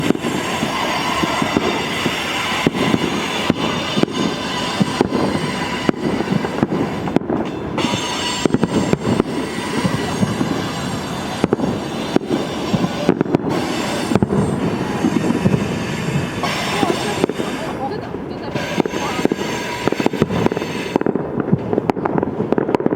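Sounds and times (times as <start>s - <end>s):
train wheels squeaking: 0.0s - 21.2s
train rumbling on rails: 0.0s - 22.5s
fireworks cracking and banging: 0.0s - 22.9s.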